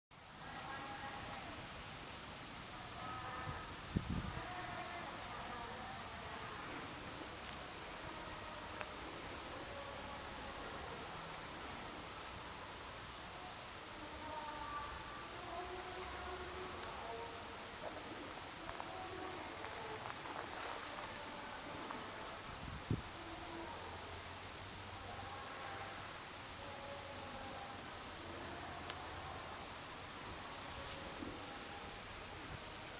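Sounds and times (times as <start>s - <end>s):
insects trilling: 0.2s - 32.9s.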